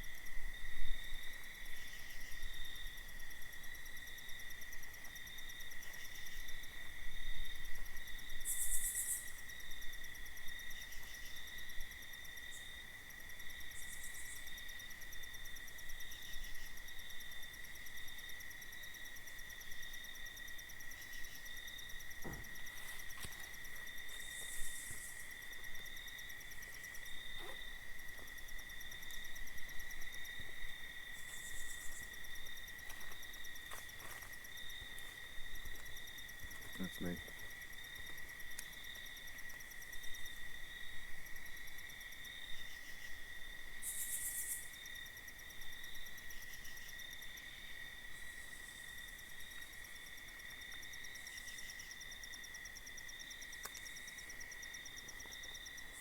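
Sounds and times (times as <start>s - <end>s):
cricket trill: 0.0s - 56.0s
pulsing insect calls: 0.9s - 56.0s.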